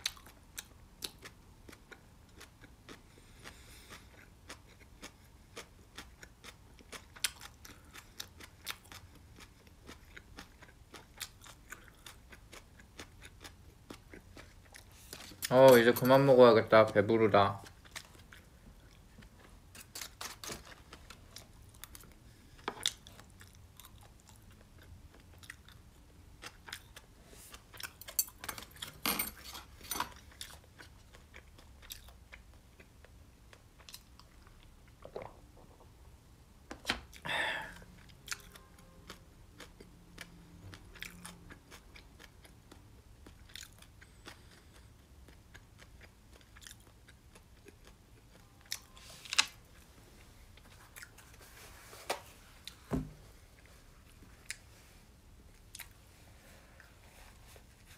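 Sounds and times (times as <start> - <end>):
person chewing food: 0.0 - 16.2, 16.8 - 36.0, 37.1 - 57.9.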